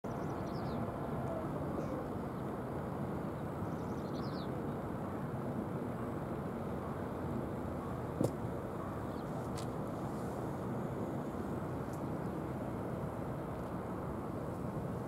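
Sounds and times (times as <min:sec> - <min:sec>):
outdoor background rumble: 0:00.1 - 0:15.0.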